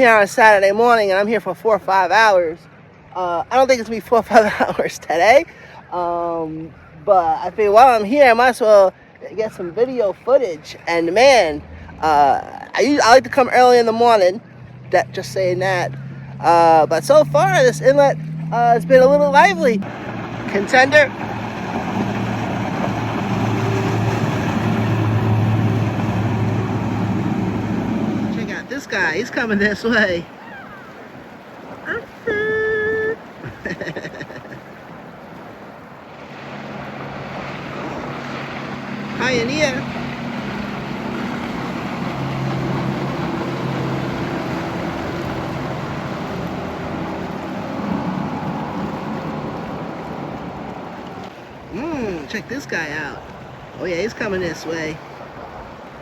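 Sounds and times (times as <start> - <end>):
boat engines humming: 0.0 - 56.0
wind and water noise: 0.0 - 56.0.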